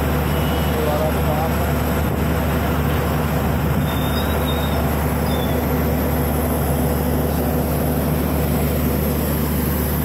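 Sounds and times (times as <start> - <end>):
diesel engine humming: 0.0 - 10.0.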